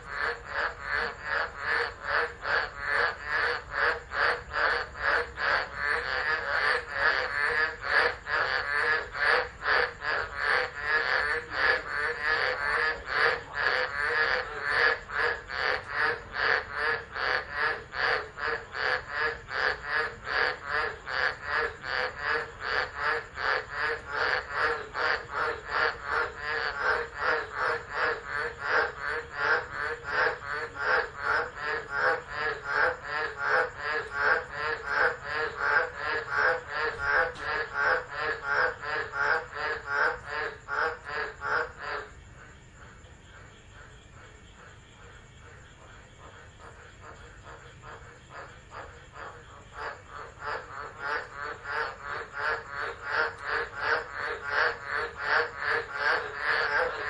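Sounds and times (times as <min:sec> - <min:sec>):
chorus of frogs calling: 0:00.0 - 0:57.0.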